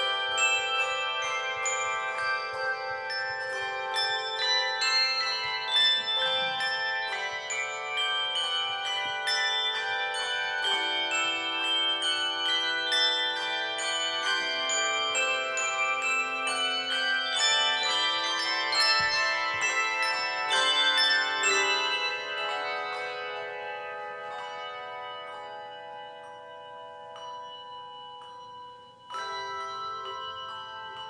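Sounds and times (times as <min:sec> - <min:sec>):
handbells ringing a melody: 0:00.0 - 0:31.0.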